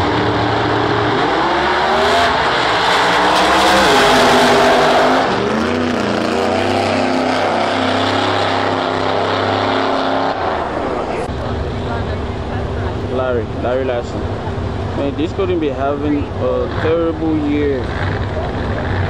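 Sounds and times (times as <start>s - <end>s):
drag race cars at full throttle: 0.0s - 19.0s.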